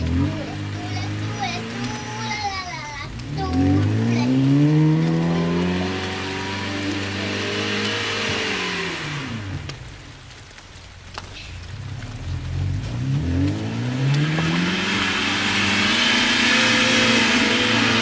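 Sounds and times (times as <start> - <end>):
car engine revving: 0.0 - 10.9, 11.6 - 18.0.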